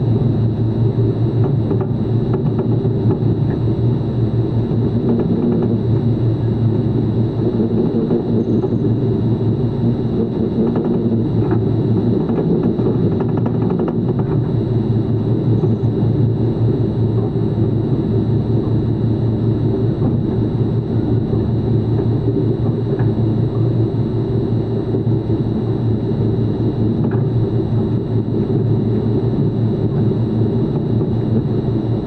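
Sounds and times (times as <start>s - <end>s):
faint high whine: 0.0s - 32.0s
low machine drone: 0.0s - 32.0s.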